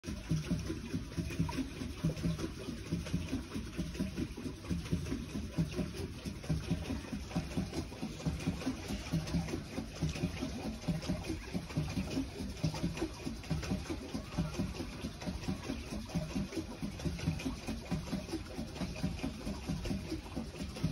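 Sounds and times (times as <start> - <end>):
paddle wheel churning water: 0.0 - 20.9.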